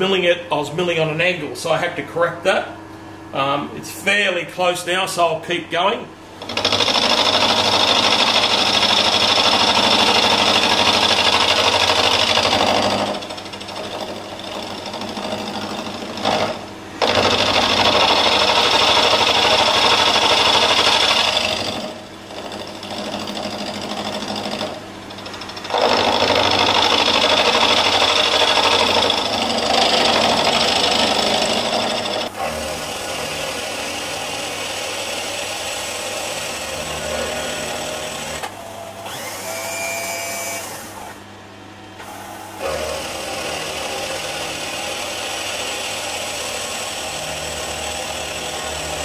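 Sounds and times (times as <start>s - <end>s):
milling machine cutting metal: 6.4s - 41.3s, 41.9s - 49.0s.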